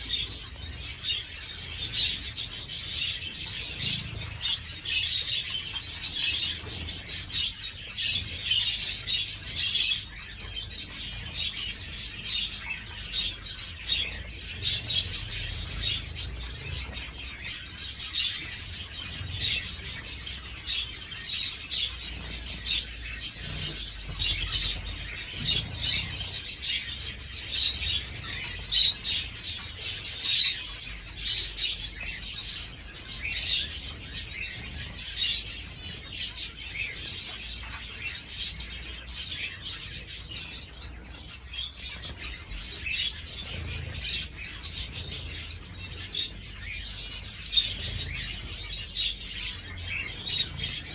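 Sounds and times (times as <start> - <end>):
finches chirping: 0.0 - 50.9.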